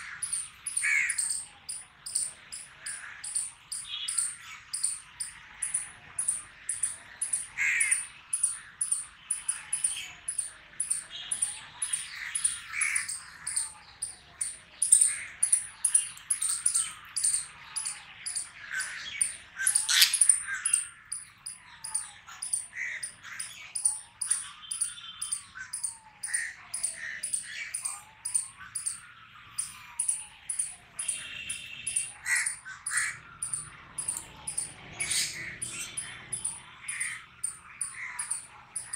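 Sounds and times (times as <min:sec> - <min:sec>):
crows cawing: 0:00.0 - 0:29.0, 0:29.6 - 0:38.9
rapid high-pitched chirping: 0:00.0 - 0:38.9.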